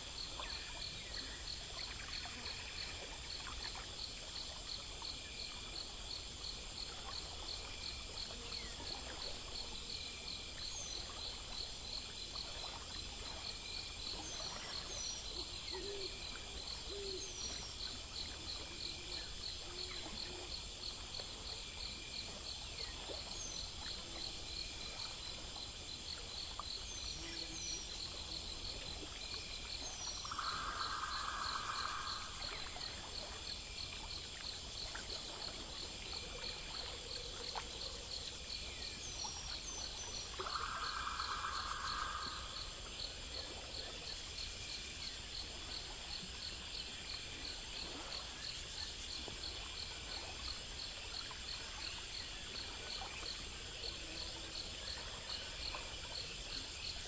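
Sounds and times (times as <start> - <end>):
crickets and insects chirping: 0.0 - 57.0
low loud insect trill: 0.0 - 57.0.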